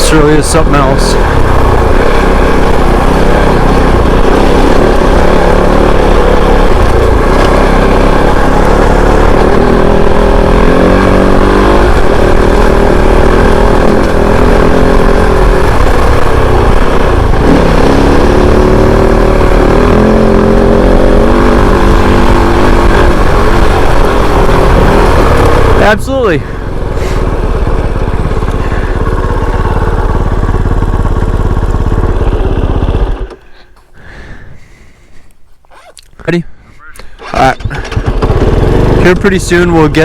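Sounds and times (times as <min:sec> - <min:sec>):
motorcycle engine revving: 0:00.0 - 0:35.0, 0:37.2 - 0:40.0.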